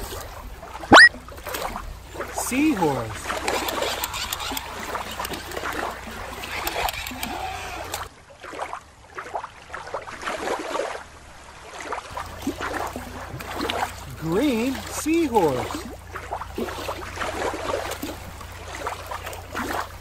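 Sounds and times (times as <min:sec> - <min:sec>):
water lapping against rocks: 0:00.0 - 0:20.0.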